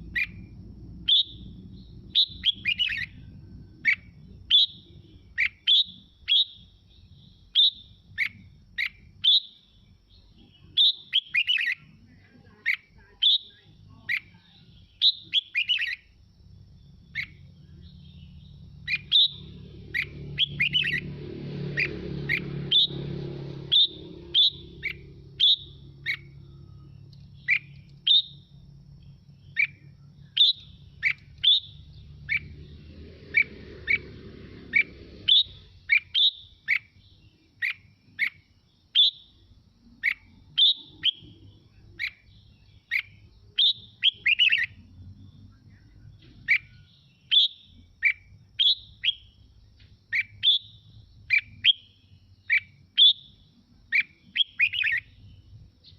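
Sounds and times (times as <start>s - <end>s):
bird singing whistled notes: 0.0s - 55.9s.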